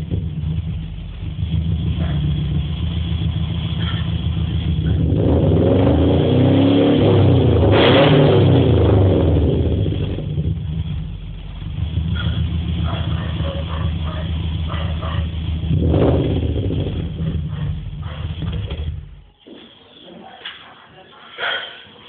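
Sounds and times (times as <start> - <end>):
car engine idling and revving: 0.0 - 19.4.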